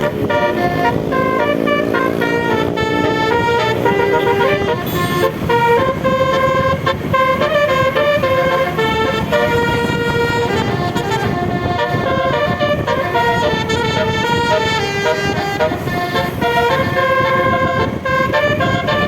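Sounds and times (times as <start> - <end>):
bus air horn playing melody: 0.0 - 19.0.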